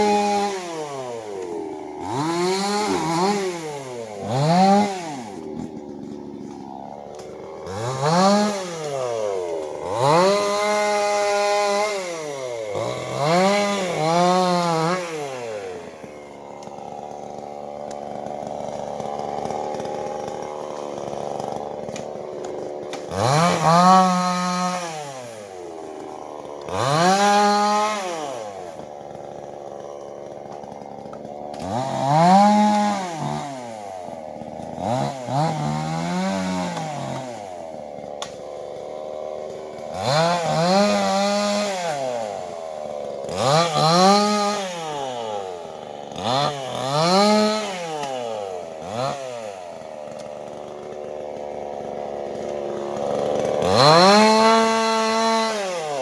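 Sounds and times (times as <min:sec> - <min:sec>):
chainsaw revving and idling: 0:00.0 - 0:56.0.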